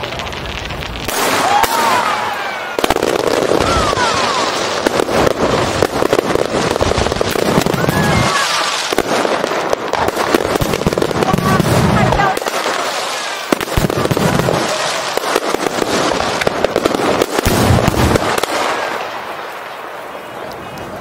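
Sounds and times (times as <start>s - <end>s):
fireworks whistling: 0.0s - 20.8s
fireworks crackling and banging: 0.0s - 21.0s.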